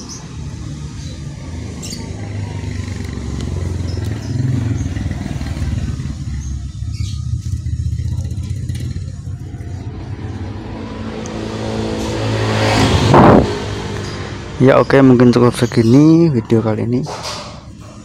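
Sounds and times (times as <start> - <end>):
motor vehicle engine running: 0.0 - 15.7.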